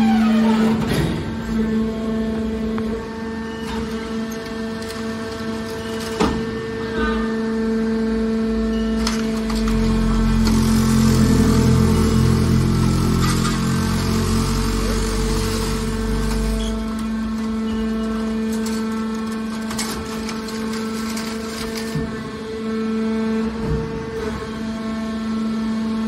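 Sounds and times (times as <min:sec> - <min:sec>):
hydraulic baler motor hum: 0:00.0 - 0:26.0.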